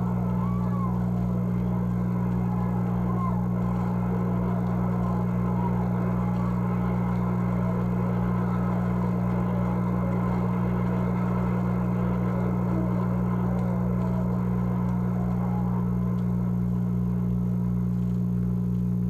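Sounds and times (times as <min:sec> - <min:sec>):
electrical hum: 0:00.0 - 0:19.0
record crackle and hiss: 0:00.0 - 0:19.0.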